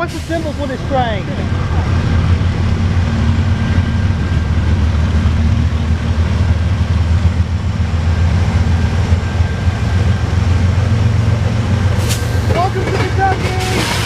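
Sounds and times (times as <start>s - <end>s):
diesel locomotive engines: 0.0s - 14.0s
freight train rumbling past: 0.0s - 14.0s.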